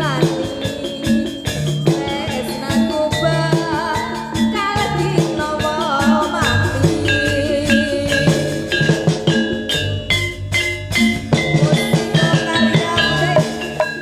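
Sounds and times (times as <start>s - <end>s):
drums keeping steady pulse: 0.0s - 14.0s
gamelan ensemble over sound system: 0.0s - 14.0s.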